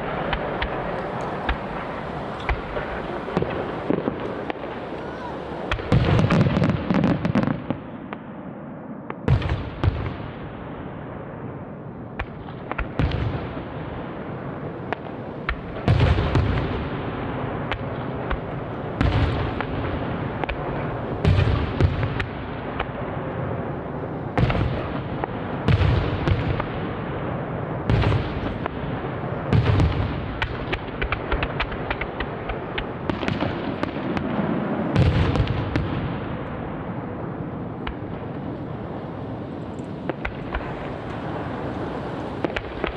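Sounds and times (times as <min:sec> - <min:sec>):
fireworks stars crackling: 0:00.0 - 0:07.4, 0:12.0 - 0:42.9
fireworks booming: 0:00.0 - 0:42.9.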